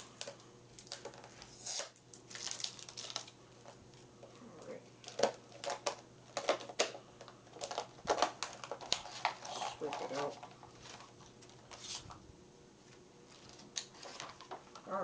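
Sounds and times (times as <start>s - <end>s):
plastic and cardboard crinkling: 0.0s - 4.4s, 5.0s - 12.2s, 12.9s - 15.0s.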